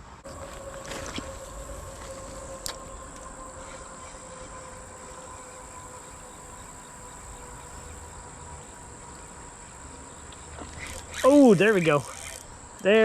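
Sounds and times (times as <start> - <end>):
faint outdoor hiss: 0.0 - 13.0
insects calling: 0.2 - 13.0.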